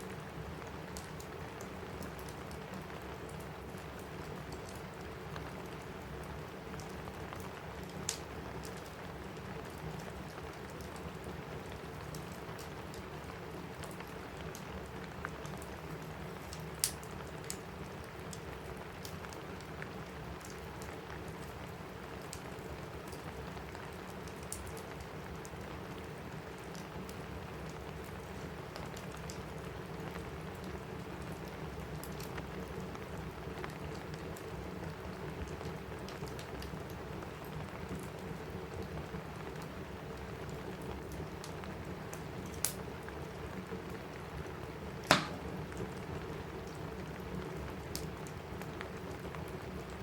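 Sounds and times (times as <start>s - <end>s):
rain on a roof: 0.0s - 50.0s
wood fire crackling: 0.0s - 50.0s.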